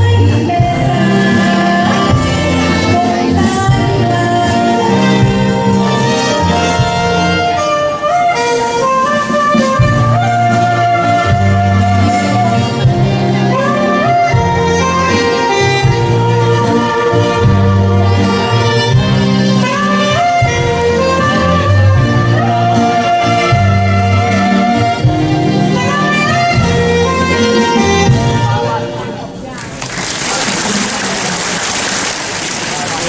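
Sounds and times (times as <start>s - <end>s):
saxophone solo: 0.0s - 29.4s
big band horns and bass: 0.0s - 33.0s.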